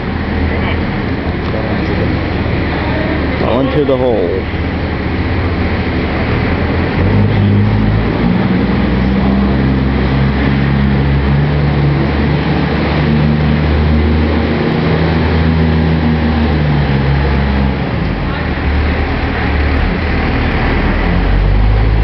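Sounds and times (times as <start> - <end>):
truck engine running hard: 0.0 - 22.0.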